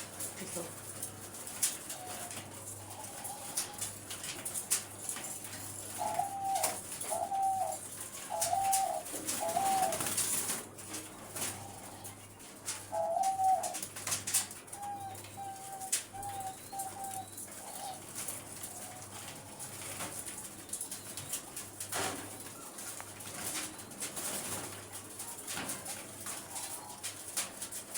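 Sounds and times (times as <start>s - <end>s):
doves cooing: 0.0s - 27.9s.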